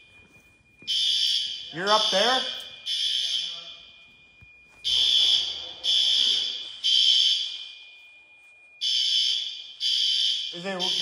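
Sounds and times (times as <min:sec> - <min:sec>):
fire alarm horn blasts: 0:00.0 - 0:11.0.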